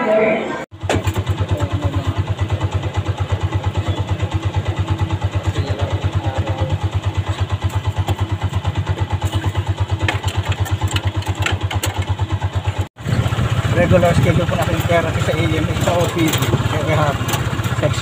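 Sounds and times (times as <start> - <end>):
small engine idling: 0.7 - 18.0.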